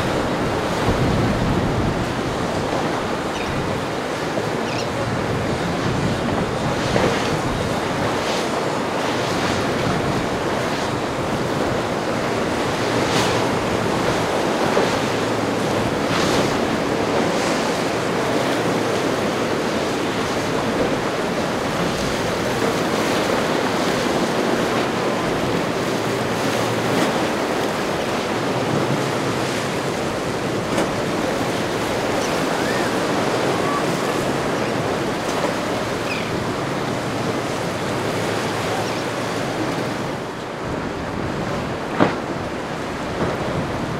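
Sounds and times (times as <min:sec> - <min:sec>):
ocean waves breaking: 0:00.0 - 0:43.9
wind buffeting microphone: 0:00.0 - 0:43.9.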